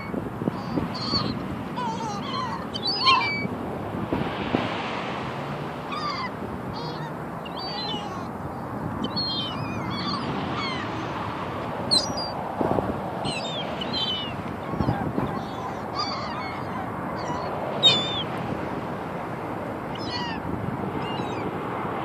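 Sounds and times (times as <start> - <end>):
gulls calling: 0.0 - 3.7, 5.7 - 21.6.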